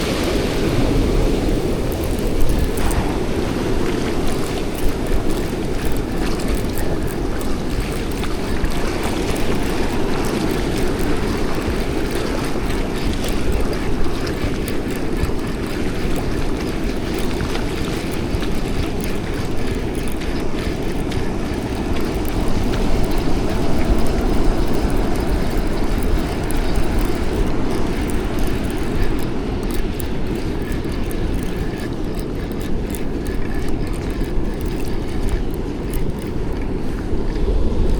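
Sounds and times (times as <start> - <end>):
ocean surf washing: 0.0 - 37.9
wind rumbling on microphone: 0.0 - 37.9.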